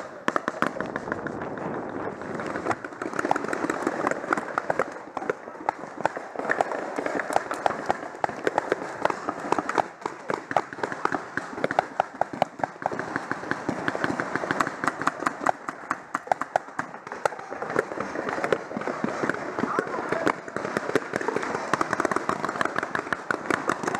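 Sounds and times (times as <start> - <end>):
paintball markers firing: 0.0 - 23.9.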